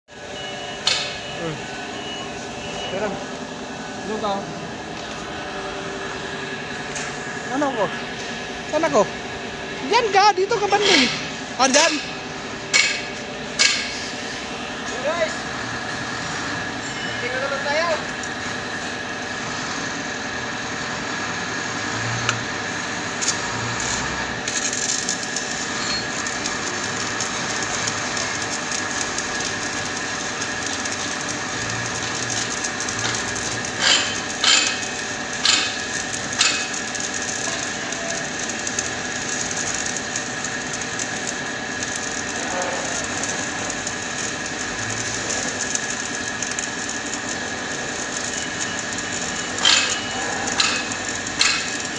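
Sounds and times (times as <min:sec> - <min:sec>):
welding arc crackling hiss: 0:00.1 - 0:51.9.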